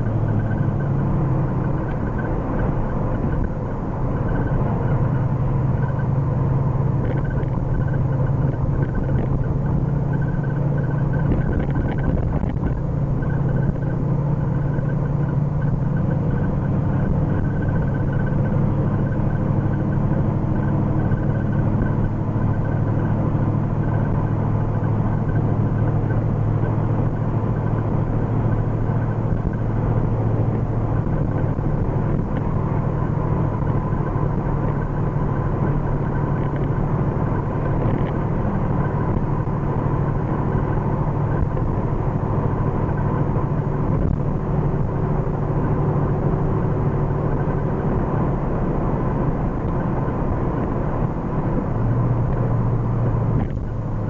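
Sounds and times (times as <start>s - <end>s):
car engine and tyre drone: 0.0s - 54.0s.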